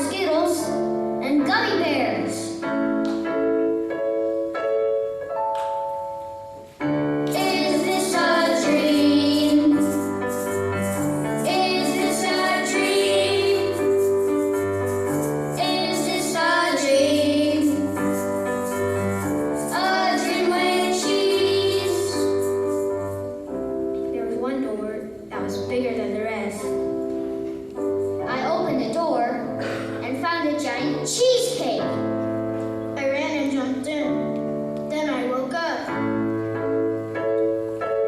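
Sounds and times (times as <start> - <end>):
held keyboard chords: 0.0 - 35.3.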